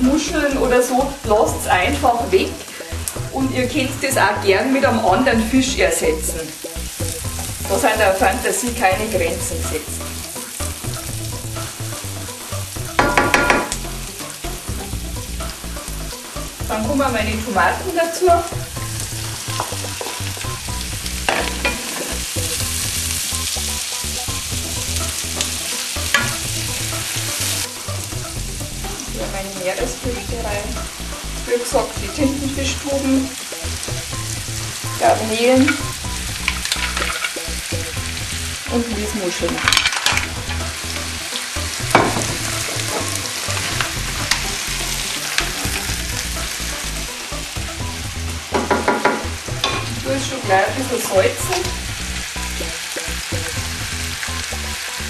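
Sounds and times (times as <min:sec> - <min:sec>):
tomatoes sizzling in frying pan: 0:00.0 - 0:55.0.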